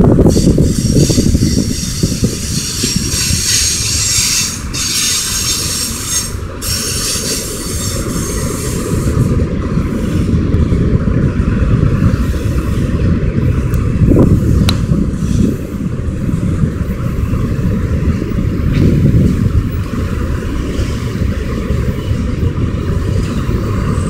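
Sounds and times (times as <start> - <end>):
train wheels rumbling on rails: 0.0 - 24.0
wheels squealing: 0.2 - 24.0.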